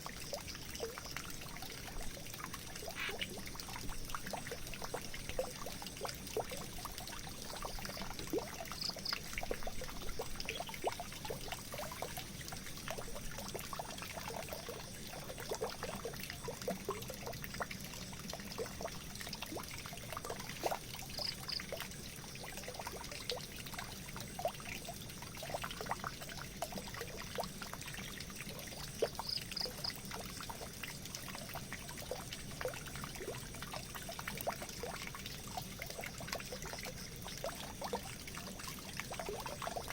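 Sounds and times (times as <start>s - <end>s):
water pouring into a drain: 0.0s - 39.9s.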